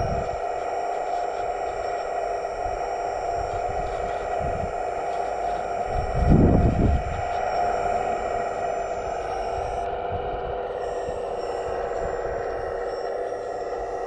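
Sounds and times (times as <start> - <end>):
hydraulic drive whining: 0.0 - 14.0.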